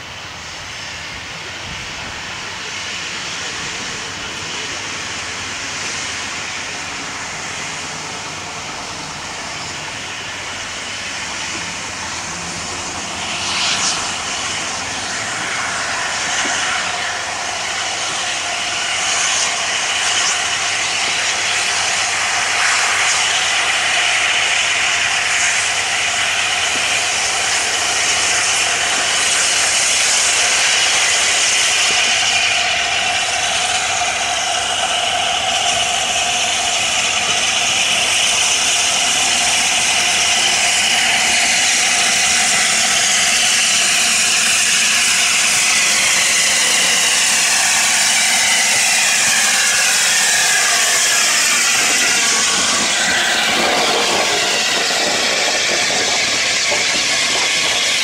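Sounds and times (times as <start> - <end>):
hiss of steam: 0.0 - 58.0
steam locomotive running: 0.0 - 58.0
wheels on rails: 2.8 - 58.0.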